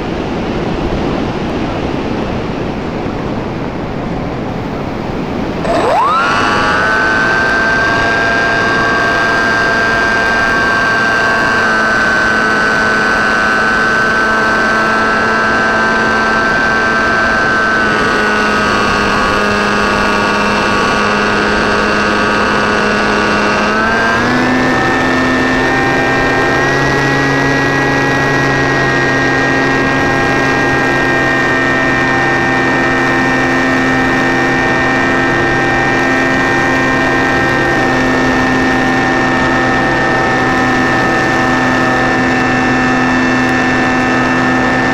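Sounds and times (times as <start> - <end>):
model plane motors droning whine: 0.0 - 44.9.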